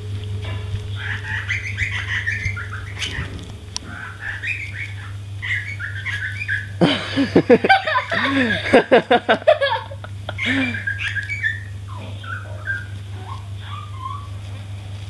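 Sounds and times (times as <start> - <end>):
songbird singing: 0.0 - 8.6, 10.0 - 14.6
steady low hum: 0.0 - 15.0.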